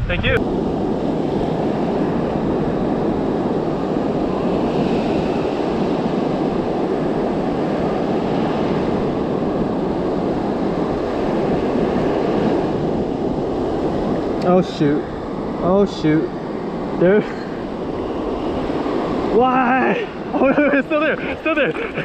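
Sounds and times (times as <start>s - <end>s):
surf washing onto beach: 0.0s - 22.0s
wind on microphone: 0.0s - 22.0s.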